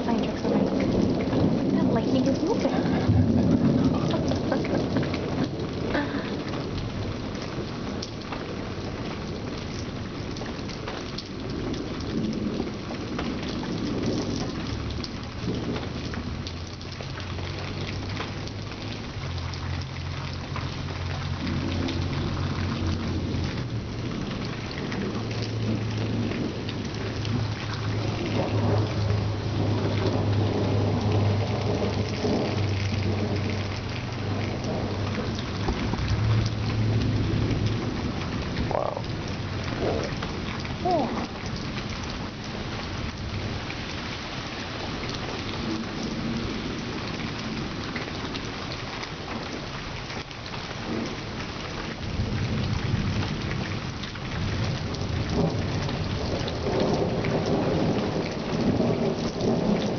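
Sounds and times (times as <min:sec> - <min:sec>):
low thunder rumbling: 0:00.0 - 0:59.9
rain falling: 0:00.0 - 0:59.9.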